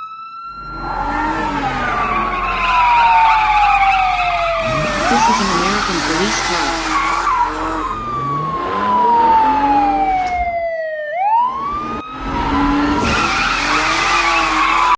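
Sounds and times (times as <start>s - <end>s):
police siren wailing: 0.0s - 14.9s
car engine and tyre noise: 0.4s - 10.7s, 11.3s - 14.9s.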